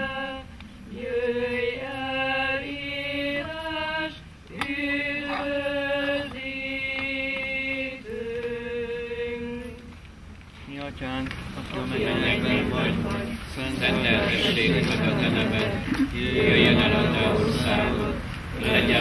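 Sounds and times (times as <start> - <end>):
voices singing a hymn: 0.0 - 10.1, 11.5 - 19.0.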